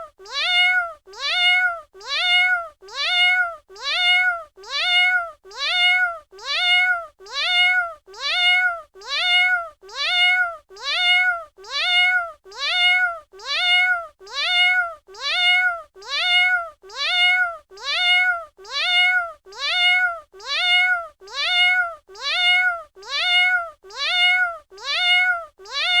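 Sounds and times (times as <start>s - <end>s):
cat meowing: 0.2s - 26.0s.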